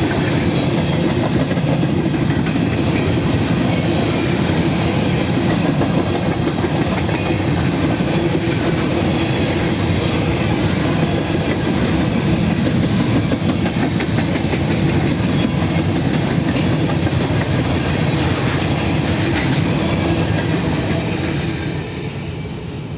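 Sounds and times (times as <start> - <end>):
freight train wheels rumbling on rails: 0.0 - 22.9.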